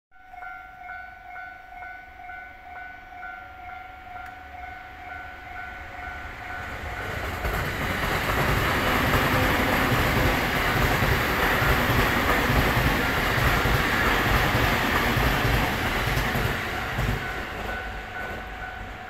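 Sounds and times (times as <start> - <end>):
train passing: 0.2 - 19.0.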